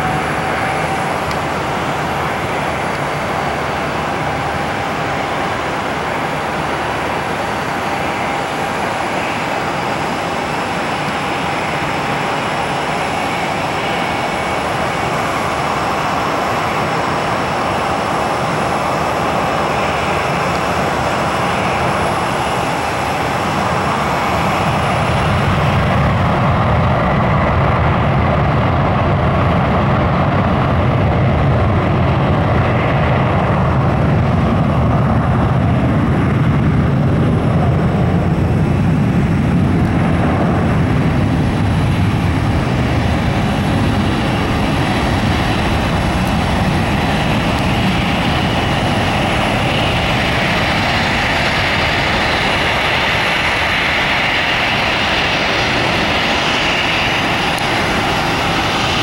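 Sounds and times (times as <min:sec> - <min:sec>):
jet engines roaring at takeoff: 0:00.0 - 0:59.0.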